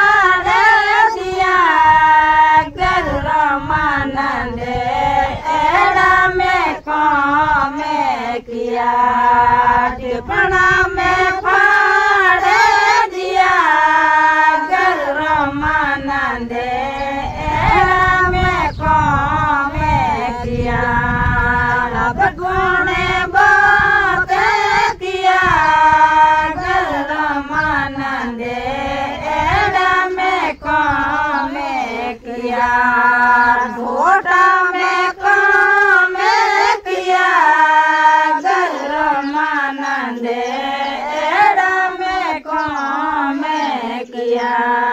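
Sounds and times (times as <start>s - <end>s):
women singing in unison: 0.0s - 44.9s.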